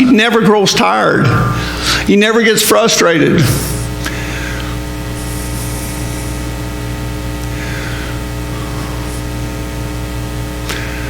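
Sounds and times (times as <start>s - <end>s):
electrical mains hum: 0.0s - 11.0s
static hiss: 1.3s - 11.0s.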